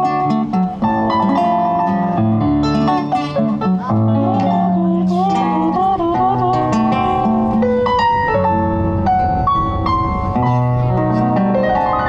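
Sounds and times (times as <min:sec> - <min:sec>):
low bass notes: 0:00.0 - 0:12.0
piano keyboard melody: 0:00.0 - 0:12.0.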